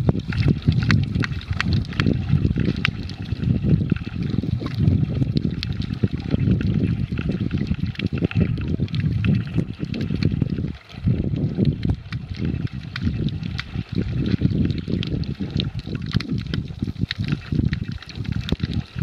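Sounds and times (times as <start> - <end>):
low rumble of moving water: 0.0 - 19.0
sharp underwater clicks and crackles: 0.0 - 19.0.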